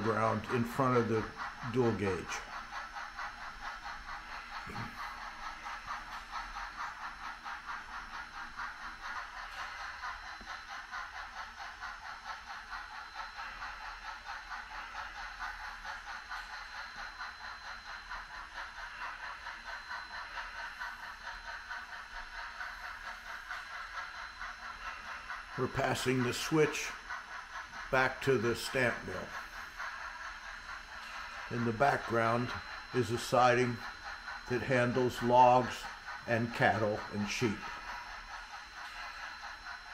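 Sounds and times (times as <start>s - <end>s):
model train wheels rattling: 0.0s - 39.9s.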